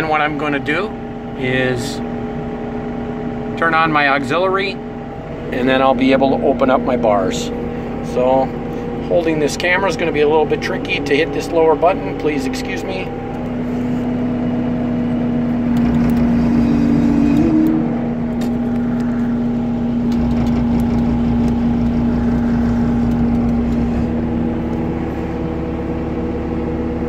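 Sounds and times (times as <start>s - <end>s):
diesel engine humming: 0.0s - 27.0s
steady second tone: 4.6s - 26.3s.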